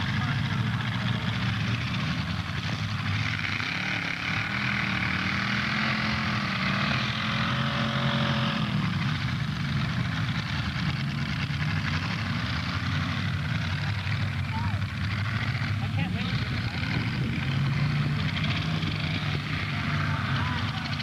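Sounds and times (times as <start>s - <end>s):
car engines rumbling: 0.0s - 21.0s.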